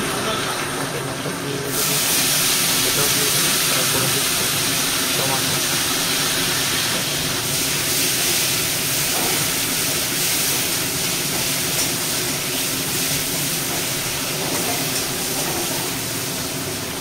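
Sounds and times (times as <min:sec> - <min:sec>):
food sizzling in hot oil: 0:01.6 - 0:17.0.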